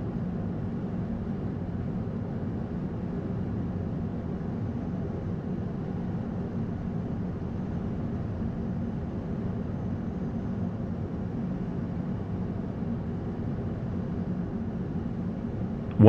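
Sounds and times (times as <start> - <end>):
aircraft cockpit engine and airflow rush: 0.0 - 16.0.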